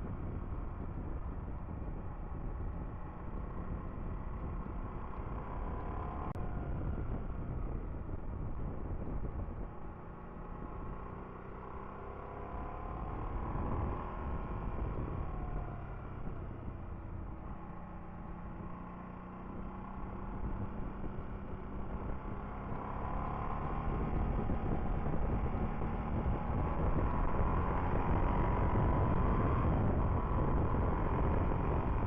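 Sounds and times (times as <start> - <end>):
motorcycle engine running hard: 0.0 - 32.0
wind and road rush: 0.0 - 32.0.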